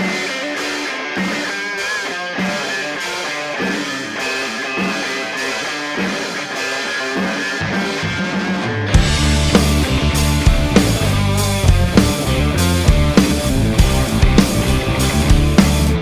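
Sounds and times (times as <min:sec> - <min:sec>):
guitar-led rock music: 0:00.0 - 0:16.0.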